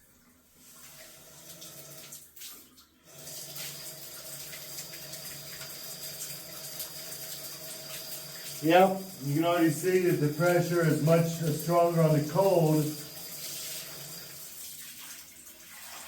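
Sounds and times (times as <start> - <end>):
water running from faucet: 0.0 - 16.0.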